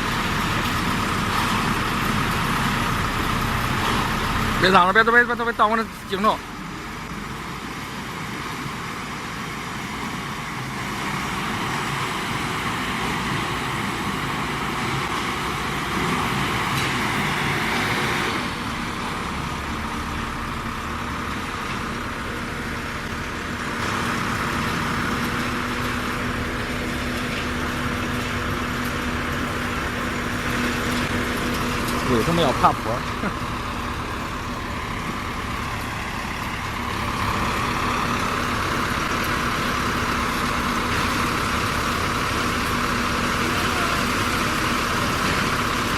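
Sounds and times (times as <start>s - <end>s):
mixer engine running: 0.0s - 45.9s.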